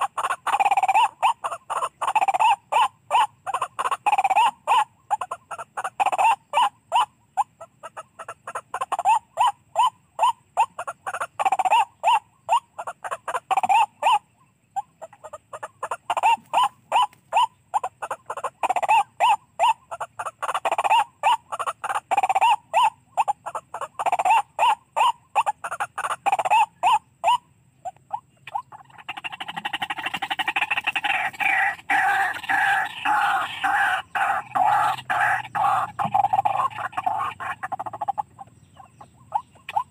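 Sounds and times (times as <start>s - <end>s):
waterhen calls: 0.0s - 39.9s.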